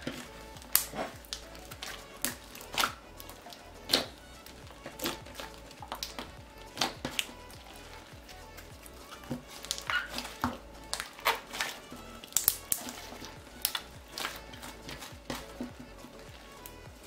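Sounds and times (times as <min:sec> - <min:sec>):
background music: 0:00.0 - 0:17.0
hands kneading sticky slime: 0:00.0 - 0:17.0.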